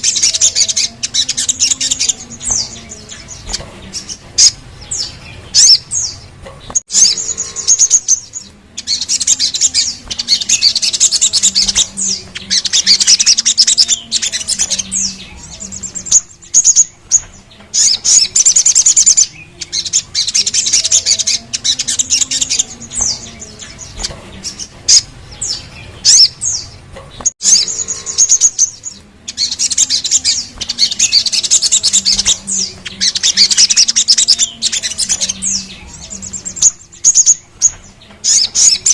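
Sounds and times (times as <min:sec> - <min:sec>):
bird trilling and chirping: 0:00.0 - 0:38.9.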